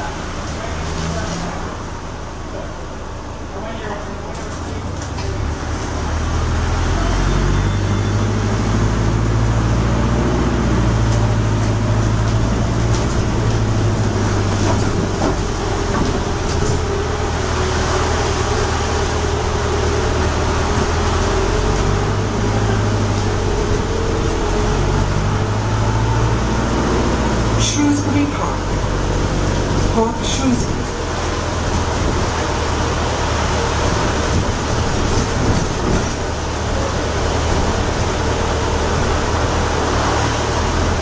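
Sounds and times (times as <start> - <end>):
bus drivetrain hum: 0.0 - 41.0
road noise: 0.0 - 41.0.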